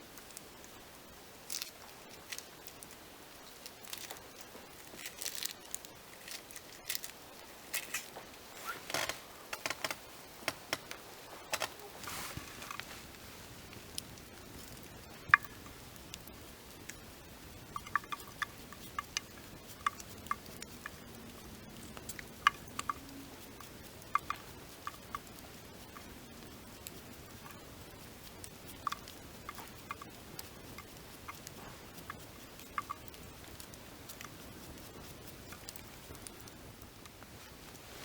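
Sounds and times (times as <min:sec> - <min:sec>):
faint steady background noise: 0:00.0 - 0:38.0
open fire crackling: 0:00.0 - 0:38.0.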